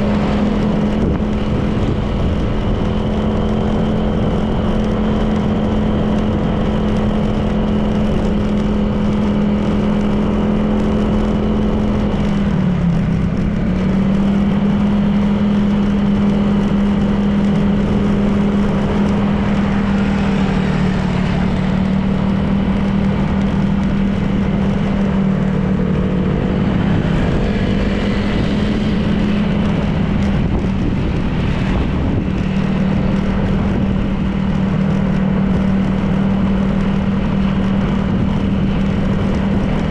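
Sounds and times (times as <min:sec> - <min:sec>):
scooter engine cruising: 0:00.0 - 0:39.9
wind and road noise: 0:00.0 - 0:39.9.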